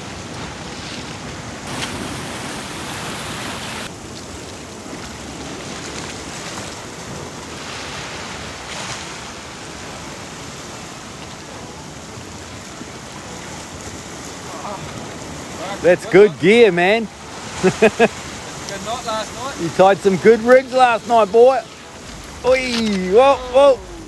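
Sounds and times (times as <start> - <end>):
ocean surf on rocky shore: 0.0 - 24.0.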